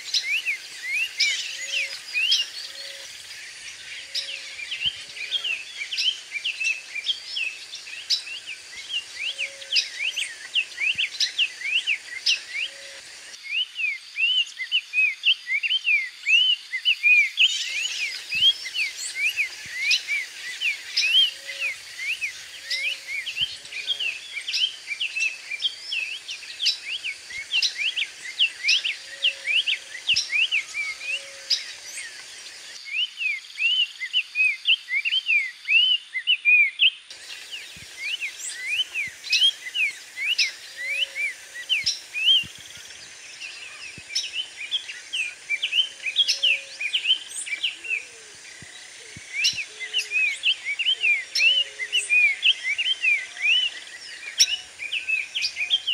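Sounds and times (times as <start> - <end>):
bird singing whistled notes: 0.0 - 3.1, 3.7 - 32.2, 32.8 - 55.9
background hiss: 0.0 - 55.9.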